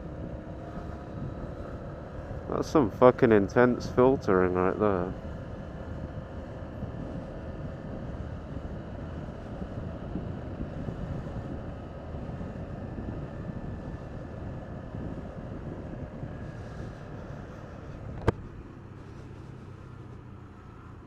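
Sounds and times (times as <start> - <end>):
wind rush on microphone: 0.0 - 20.2
motorcycle engine running: 0.0 - 21.0.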